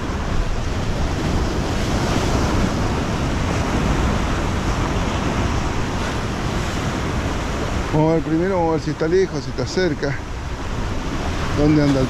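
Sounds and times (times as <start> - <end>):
waves breaking on rocks: 0.0 - 12.0
wind rumbling on microphone: 0.0 - 12.0.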